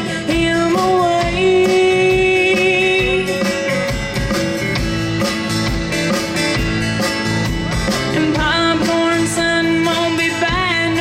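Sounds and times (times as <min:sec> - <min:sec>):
bass and drum beat: 0:00.0 - 0:11.0
strummed guitars: 0:00.0 - 0:11.0.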